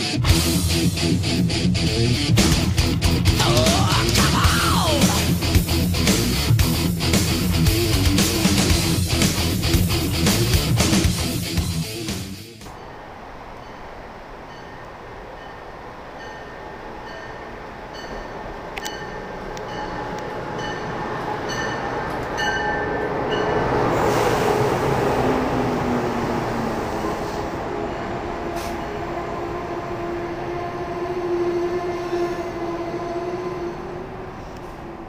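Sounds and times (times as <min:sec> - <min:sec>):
train passing: 0:00.0 - 0:35.0.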